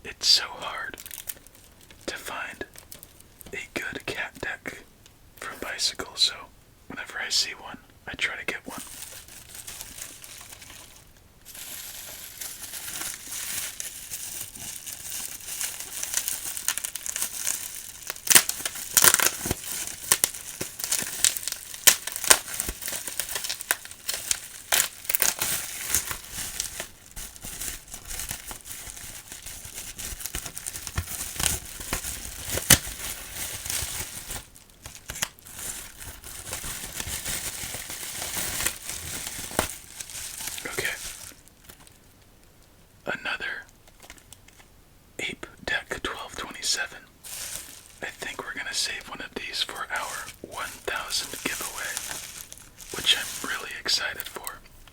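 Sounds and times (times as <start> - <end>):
plastic packaging crinkling: 0.4 - 4.6, 8.3 - 42.2, 43.7 - 44.7, 46.1 - 54.9.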